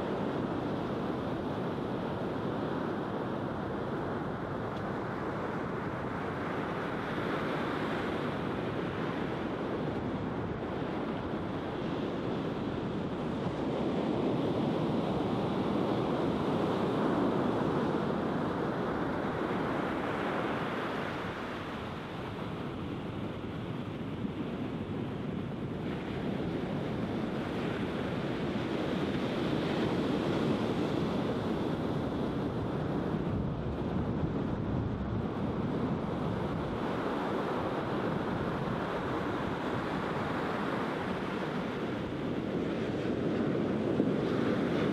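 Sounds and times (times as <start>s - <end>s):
surf washing up a beach: 0.0s - 44.9s.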